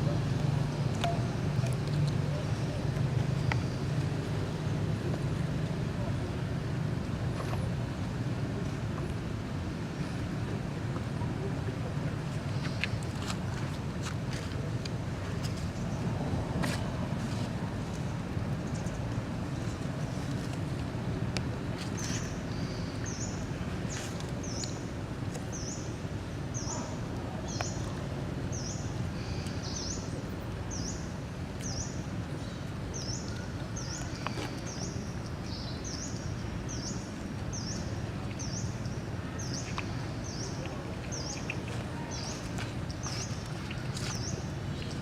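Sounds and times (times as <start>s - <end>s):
low outdoor rumble: 0.0s - 45.0s.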